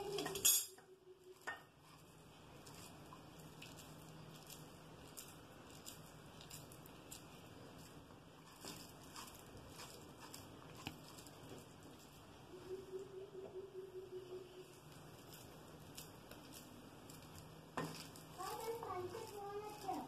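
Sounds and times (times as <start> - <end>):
soft squishing and patting: 1.2 - 12.5, 14.5 - 20.0.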